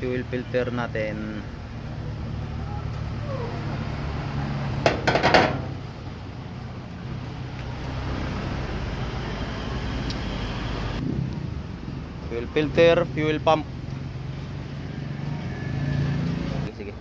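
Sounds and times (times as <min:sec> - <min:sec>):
low hum of street traffic: 0:00.0 - 0:17.0.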